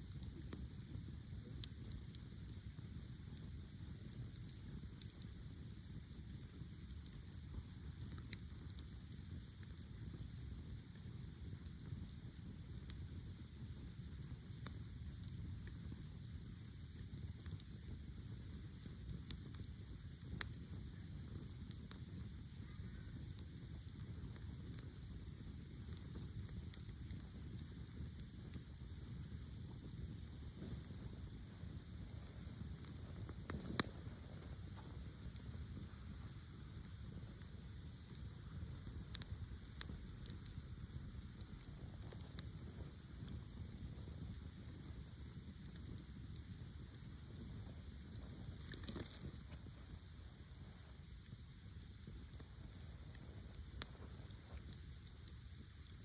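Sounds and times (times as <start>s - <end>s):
campfire crackling and popping: 0.0s - 56.0s
crickets trilling: 0.0s - 56.0s.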